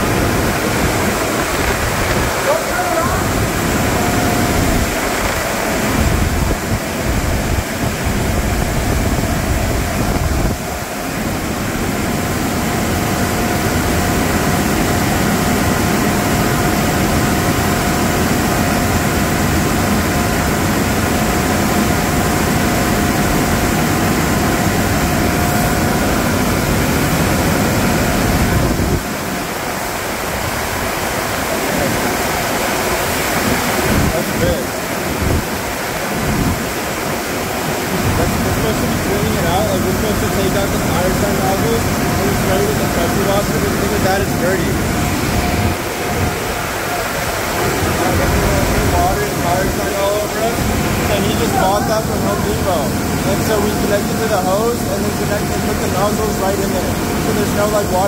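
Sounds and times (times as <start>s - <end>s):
car wash machinery: 0.0s - 58.0s
faint steady whine: 0.0s - 58.0s
water rushing: 0.0s - 58.0s.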